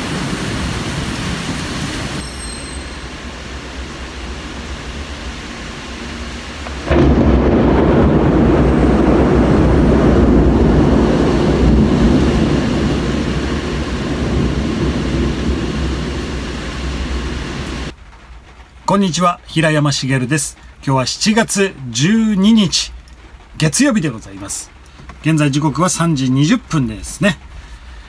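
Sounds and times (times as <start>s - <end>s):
thunder clap and rumble: 0.0s - 2.2s, 3.1s - 28.0s
heavy rain: 0.0s - 28.0s
wind: 0.0s - 28.0s.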